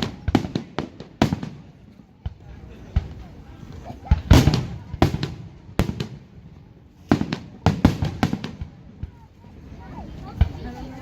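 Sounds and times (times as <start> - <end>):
fireworks bursting: 0.0 - 9.4.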